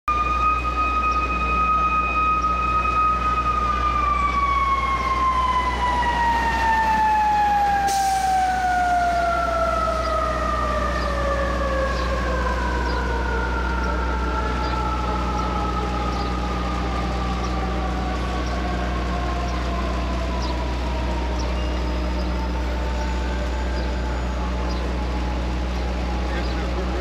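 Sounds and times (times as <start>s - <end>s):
mechanical siren wailing: 0.1s - 27.0s.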